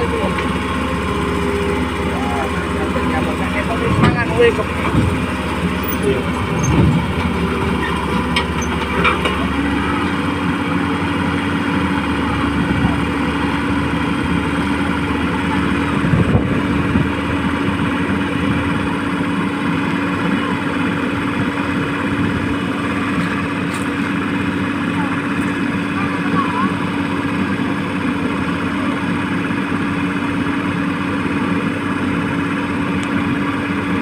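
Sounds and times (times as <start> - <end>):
model excavator mechanical hum: 0.0 - 34.0.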